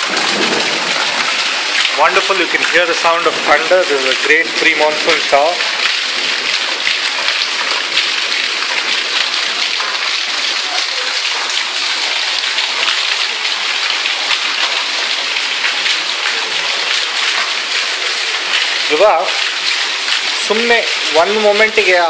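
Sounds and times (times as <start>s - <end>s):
heavy rain falling: 0.0s - 22.0s
water pouring down a pipe: 0.0s - 22.0s.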